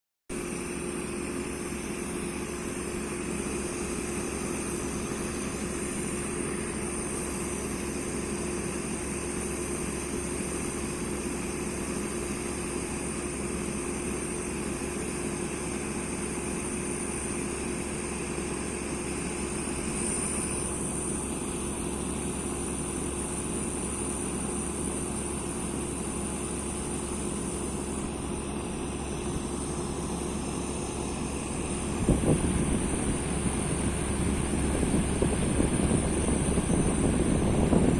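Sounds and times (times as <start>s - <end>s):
fan heater whirring: 0.3s - 37.9s.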